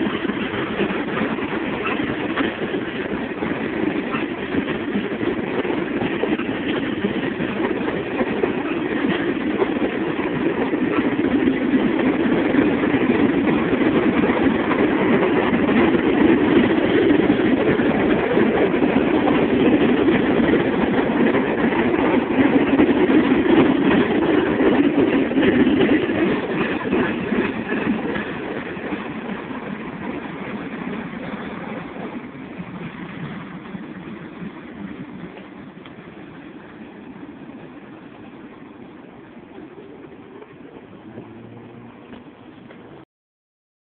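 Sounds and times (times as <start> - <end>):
freight train rumbling on rails: 0.0 - 43.0.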